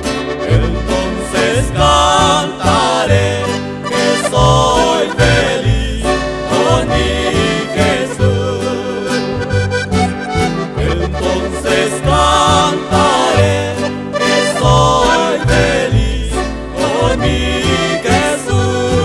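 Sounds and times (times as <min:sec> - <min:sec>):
instrumental backing with bass: 0:00.0 - 0:19.0
male trio singing in harmony: 0:00.3 - 0:09.8, 0:10.6 - 0:19.0.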